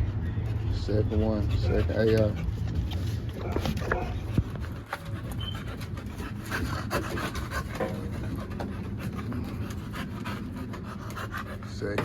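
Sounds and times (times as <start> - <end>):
dog panting rapidly: 0.0 - 12.0.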